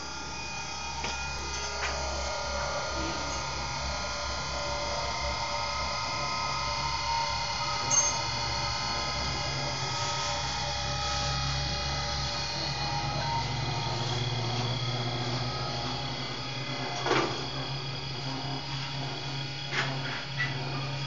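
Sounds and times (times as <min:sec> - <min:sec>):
foam cutting machine humming: 0:00.0 - 0:21.0.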